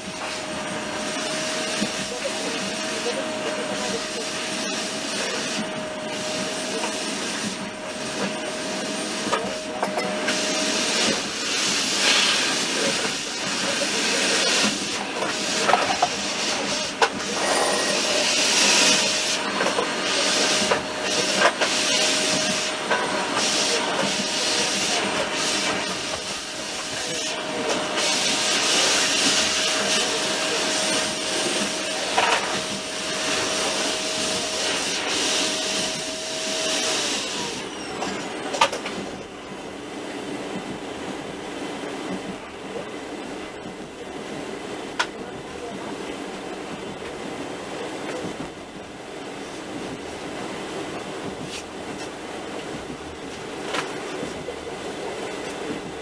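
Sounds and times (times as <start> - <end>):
train wheel and air noise: 0.0 - 56.0.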